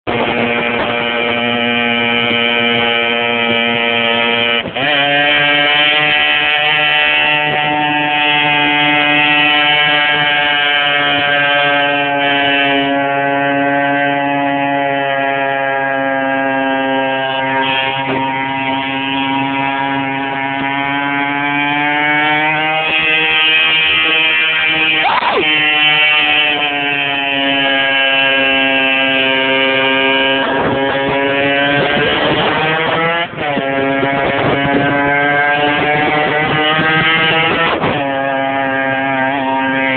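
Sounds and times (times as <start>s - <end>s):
small motorcycle engine buzzing: 0.1s - 39.9s.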